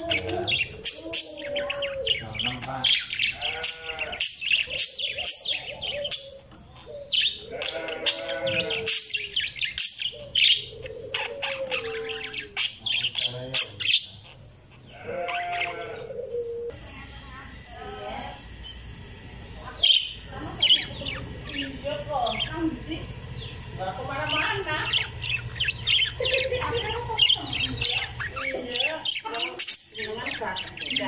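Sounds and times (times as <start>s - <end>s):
parakeets chirping: 0.0s - 31.0s.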